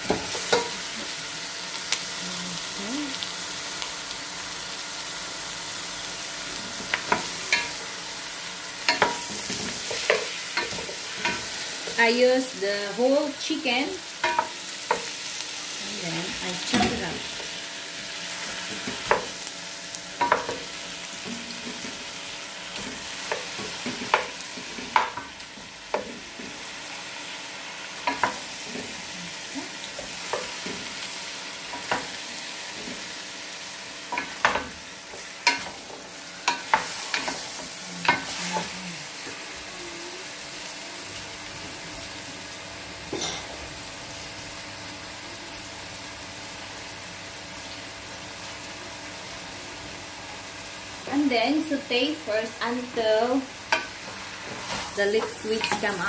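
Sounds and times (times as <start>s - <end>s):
chicken sizzling in a pot: 0.0s - 56.0s.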